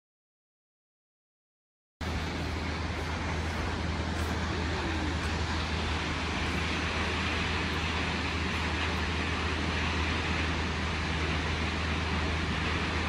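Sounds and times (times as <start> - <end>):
deep water rumble: 2.0 - 13.0
waterfall rushing: 2.0 - 13.0.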